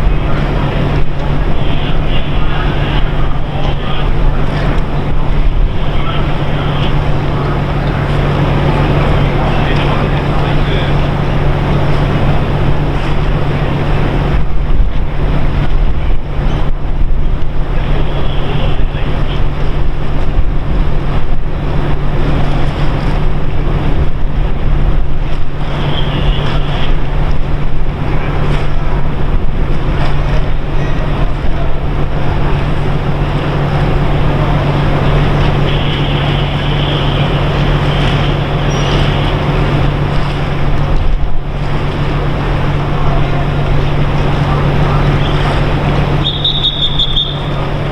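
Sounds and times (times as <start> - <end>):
low mechanical hum: 0.0 - 47.9
wind buffeting microphone: 0.0 - 47.9.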